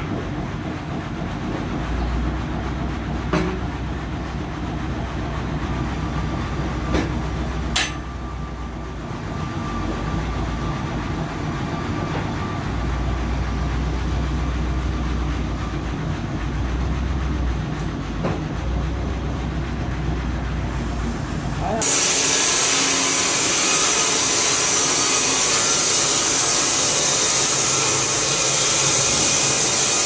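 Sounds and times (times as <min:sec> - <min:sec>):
band sawmill running: 0:00.0 - 0:30.0.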